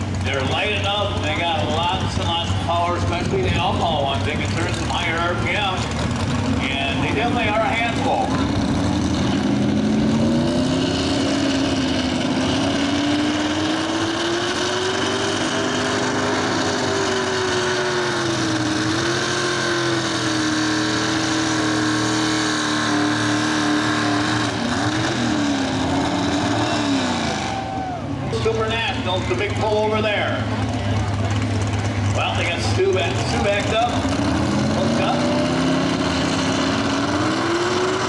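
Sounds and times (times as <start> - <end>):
truck engine revving high: 0.0 - 38.0.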